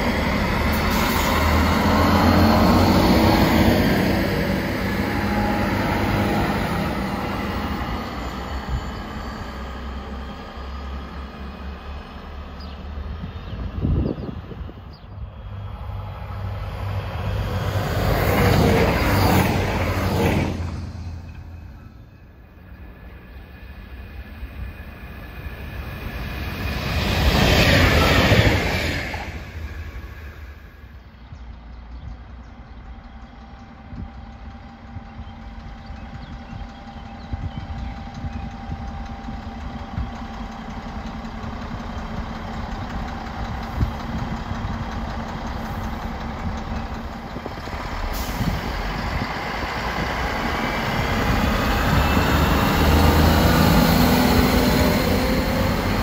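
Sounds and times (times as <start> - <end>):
diesel train passing: 0.0 - 56.0.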